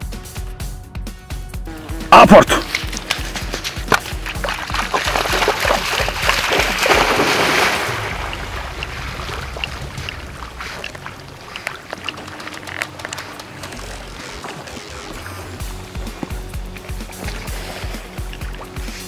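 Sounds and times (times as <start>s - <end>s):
dog splashing through water: 2.6s - 19.0s.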